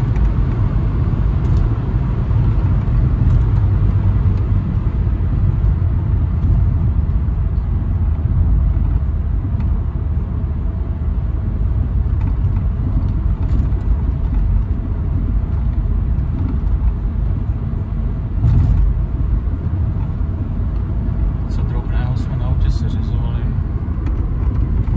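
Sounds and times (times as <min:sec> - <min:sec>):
car engine running: 0:00.0 - 0:24.9
tyres rumbling on road: 0:00.0 - 0:24.9.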